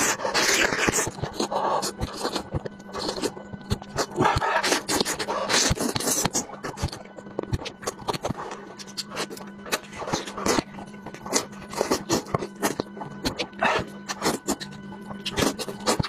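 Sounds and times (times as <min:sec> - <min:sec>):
slurping and sucking meat off bones: 0:00.0 - 0:16.0
smacking chews: 0:00.0 - 0:16.0.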